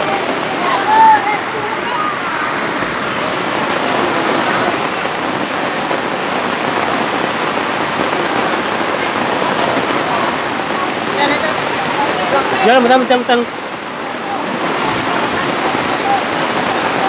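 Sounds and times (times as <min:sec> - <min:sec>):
heavy rain: 0:00.0 - 0:17.0
rushing floodwater: 0:00.0 - 0:17.0.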